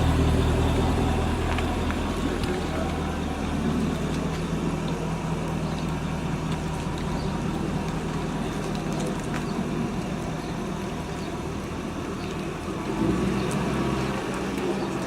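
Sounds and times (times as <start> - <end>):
car engine idling: 0.0 - 15.0
outdoor street noise: 0.0 - 15.0.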